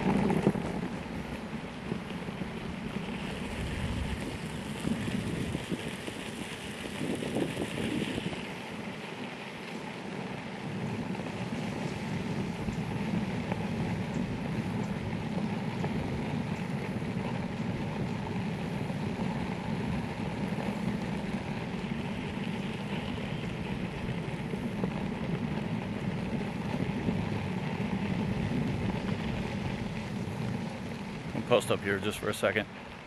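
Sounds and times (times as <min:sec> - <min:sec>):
wheels rolling over gravel: 0:00.0 - 0:33.0.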